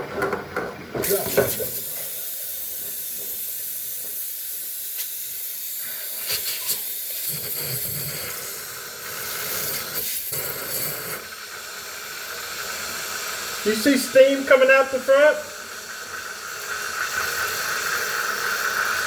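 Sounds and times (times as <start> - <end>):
steam hissing: 1.0 - 19.0.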